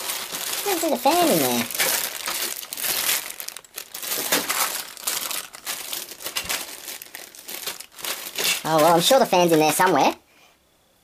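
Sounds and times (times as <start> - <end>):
plastic bags crinkling: 0.0 - 10.2.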